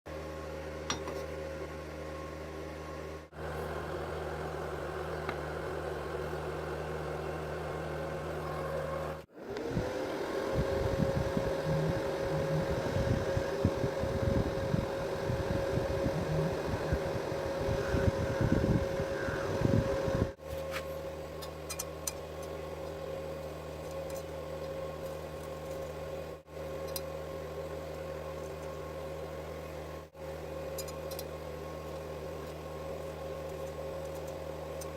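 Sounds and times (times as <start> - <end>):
electrical hum: 0.1 - 34.9.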